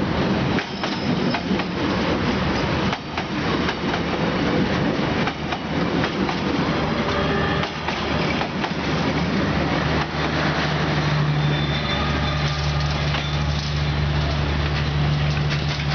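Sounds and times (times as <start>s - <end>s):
train wheels on rails: 0.0s - 15.9s.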